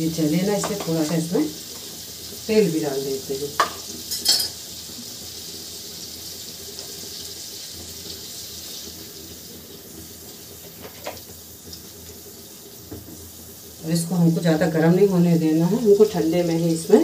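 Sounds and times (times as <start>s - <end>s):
butter and oil sizzling: 0.0s - 17.0s.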